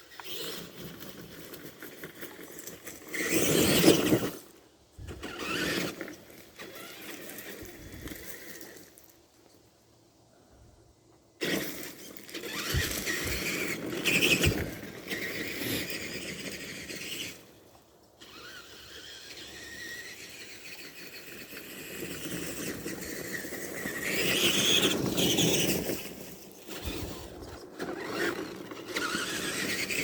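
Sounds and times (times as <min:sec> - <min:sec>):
rc truck motor whining: 0:00.0 - 0:09.2, 0:11.4 - 0:30.0.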